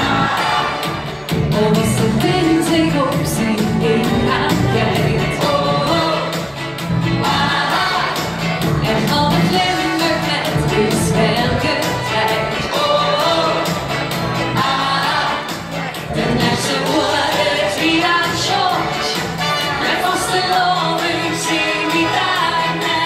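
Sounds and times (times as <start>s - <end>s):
amplified pop backing music: 0.0s - 23.0s
woman singing into microphone: 1.4s - 6.5s, 7.2s - 13.8s, 14.6s - 23.0s.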